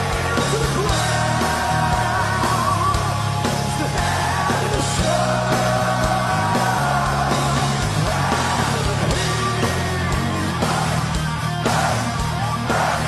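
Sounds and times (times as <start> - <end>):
bass and drums: 0.0 - 13.0
bending lead guitar lines: 0.0 - 13.0
distorted electric guitars: 0.0 - 13.0.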